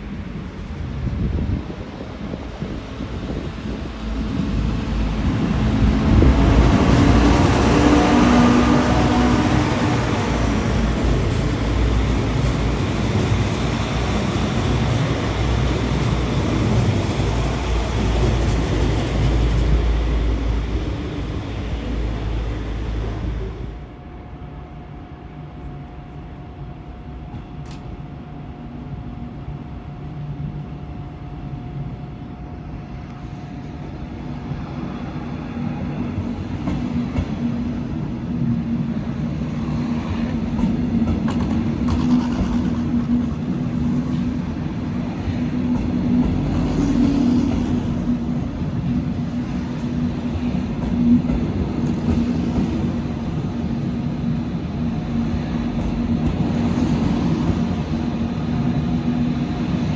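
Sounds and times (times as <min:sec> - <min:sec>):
train hum: 0:00.0 - 0:59.9.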